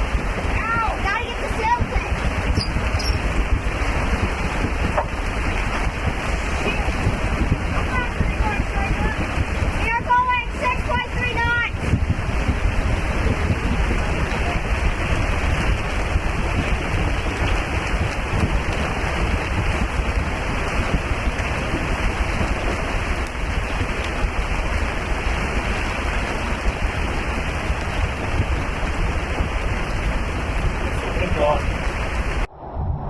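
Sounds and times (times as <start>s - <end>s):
heavy low buffeting: 0.0s - 33.0s
rain and wind squall at sea: 0.0s - 33.0s.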